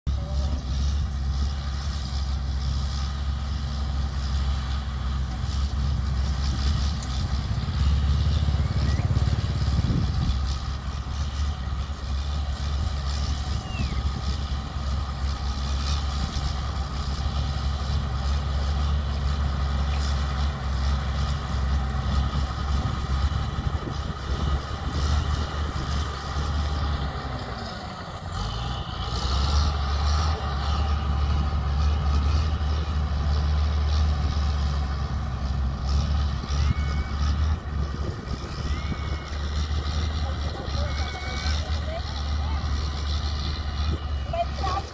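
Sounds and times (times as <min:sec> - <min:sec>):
bulldozer diesel engine under load: 0:00.0 - 0:44.9
blade pushing rock and soil: 0:00.1 - 0:44.9.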